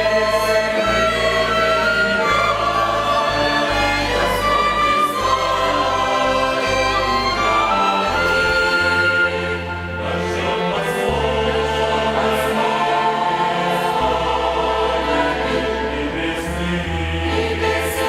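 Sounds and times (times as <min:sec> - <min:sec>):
choir singing a hymn: 0:00.0 - 0:18.0
violin ensemble: 0:00.0 - 0:18.0.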